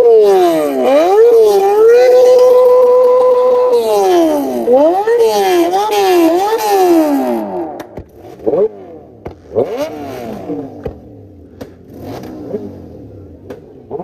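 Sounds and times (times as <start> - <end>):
exhaust cracks: 0.0 - 14.0
motorcycle engine revving: 0.0 - 14.0.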